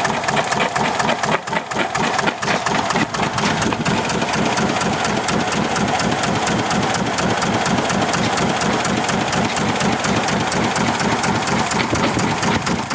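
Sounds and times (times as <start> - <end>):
diesel boat engine running: 0.0 - 12.9.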